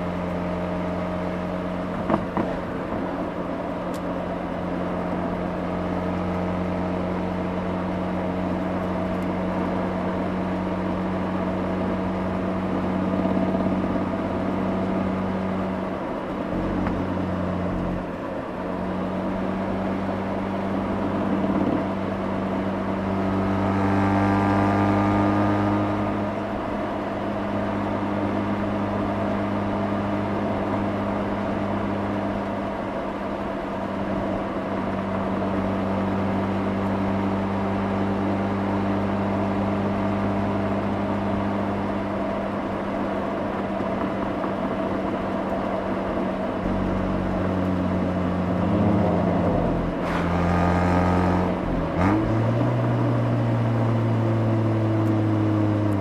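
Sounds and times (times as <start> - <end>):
rotary engine exhaust: 0.0 - 56.0.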